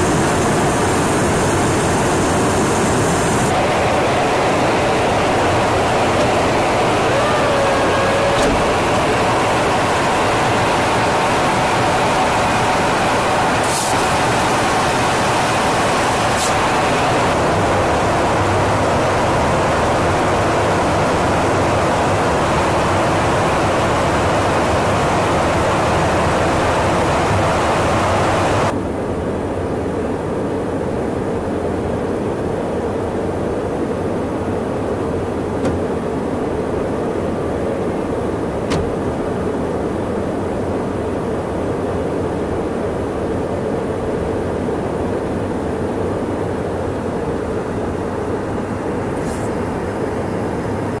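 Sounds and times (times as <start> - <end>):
aircraft cabin engine rush: 0.0 - 51.0.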